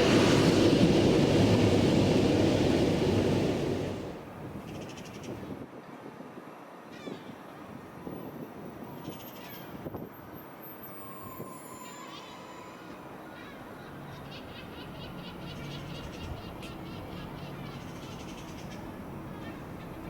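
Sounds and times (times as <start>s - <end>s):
railway station background hum: 0.0s - 20.0s.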